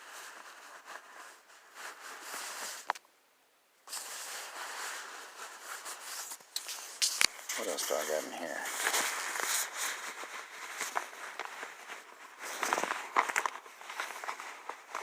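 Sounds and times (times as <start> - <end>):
rustling and handling of items: 0.0 - 3.0, 3.9 - 15.0.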